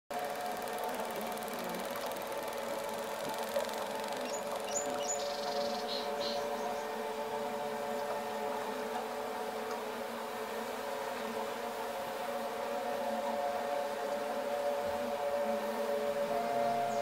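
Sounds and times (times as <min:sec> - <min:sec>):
steady humming drone: 0:00.1 - 0:17.0.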